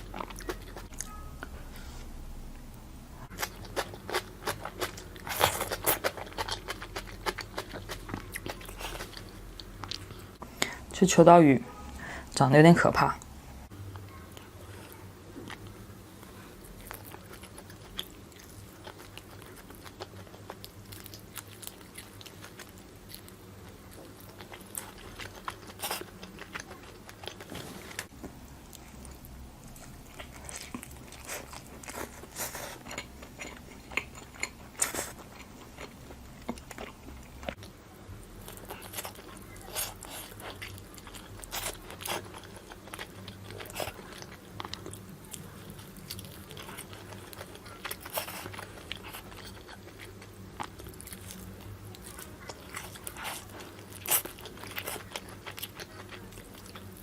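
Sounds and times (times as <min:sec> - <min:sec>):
crunchy chewing: 0:03.3 - 0:10.4, 0:14.4 - 0:28.1, 0:28.7 - 0:37.7, 0:38.4 - 0:57.0.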